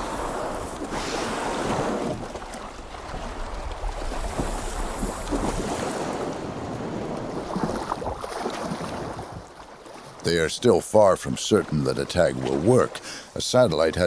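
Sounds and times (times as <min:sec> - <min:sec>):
water splashes: 0:00.0 - 0:14.0
water washing around boat: 0:00.0 - 0:14.0.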